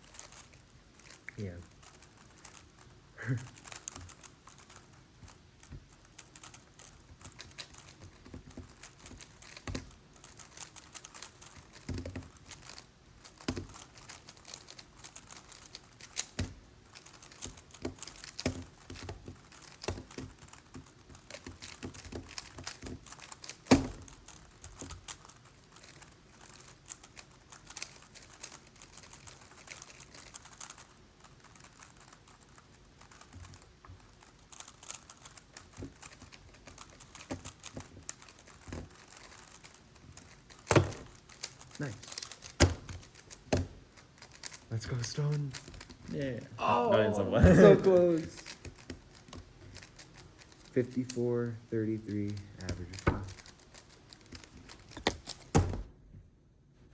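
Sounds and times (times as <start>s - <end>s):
puzzle cube plastic clicks: 0.0s - 46.4s, 47.9s - 55.9s.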